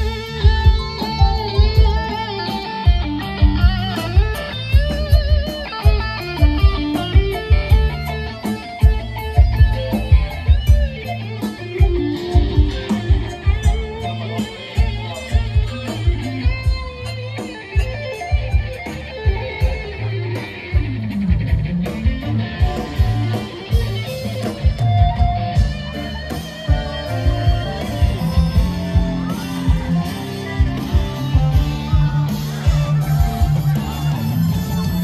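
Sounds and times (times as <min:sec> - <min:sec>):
bass and drum kit: 0:00.0 - 0:35.0
electric guitar: 0:00.0 - 0:35.0.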